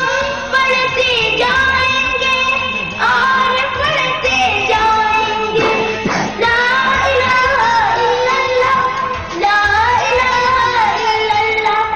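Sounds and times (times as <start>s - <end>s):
boy singing: 0.0s - 11.9s.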